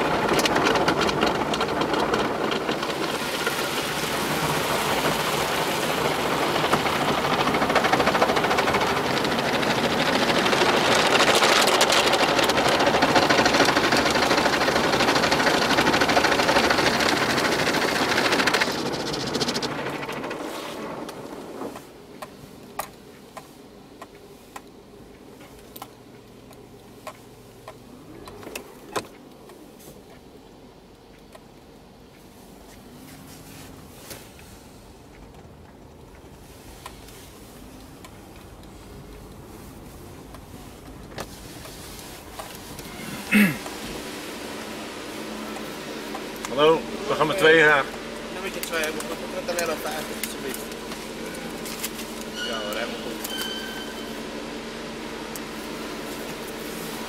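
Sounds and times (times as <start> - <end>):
car wash rushing: 0.0 - 29.9, 31.9 - 57.0.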